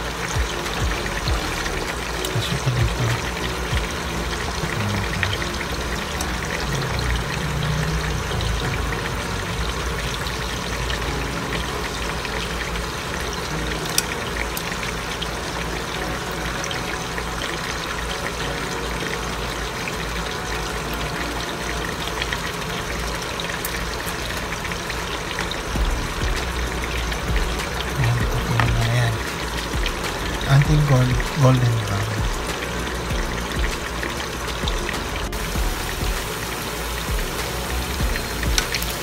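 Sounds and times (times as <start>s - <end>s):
chicken sizzling in a pan: 0.0s - 39.0s.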